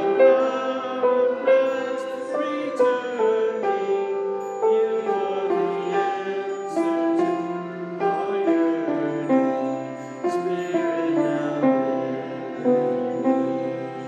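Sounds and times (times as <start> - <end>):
slow instrumental music: 0.0 - 14.0.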